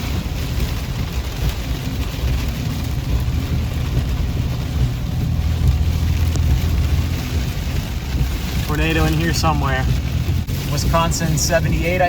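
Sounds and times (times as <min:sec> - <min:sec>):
car driving low rumble: 0:00.0 - 0:12.0
wind buffeting car: 0:00.0 - 0:12.0.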